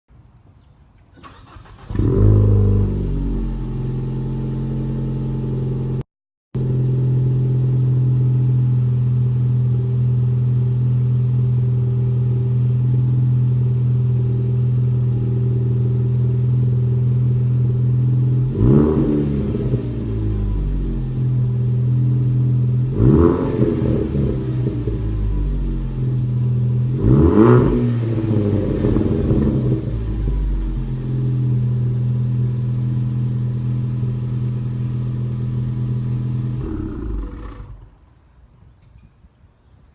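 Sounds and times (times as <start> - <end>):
car engine idling and revving: 1.2 - 6.0, 6.6 - 37.9.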